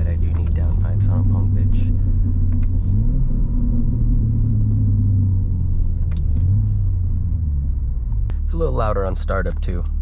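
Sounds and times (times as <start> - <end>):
car engine drone from cabin: 0.0 - 10.0.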